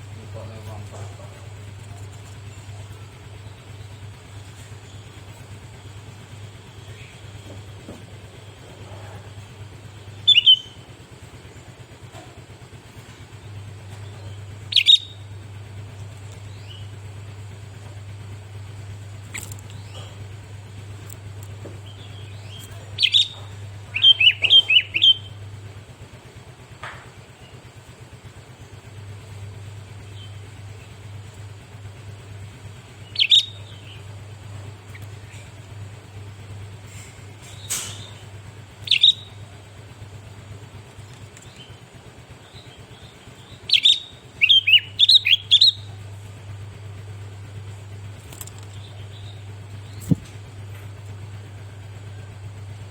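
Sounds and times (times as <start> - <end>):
bird calls: 0.0 - 52.9
low hum: 0.0 - 52.9.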